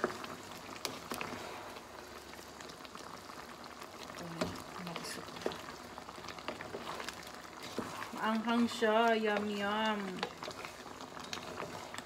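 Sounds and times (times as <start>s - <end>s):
sauce simmering in a pot: 0.0s - 12.0s.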